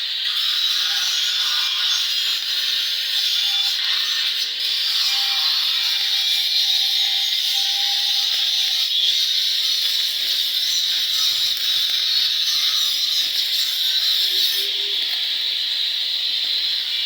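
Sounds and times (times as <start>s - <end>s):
welding arc hissing: 0.0s - 17.0s.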